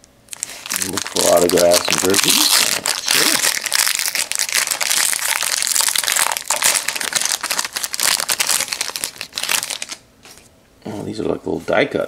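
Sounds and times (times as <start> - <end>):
foil wrapper crinkling: 0.3 - 10.0.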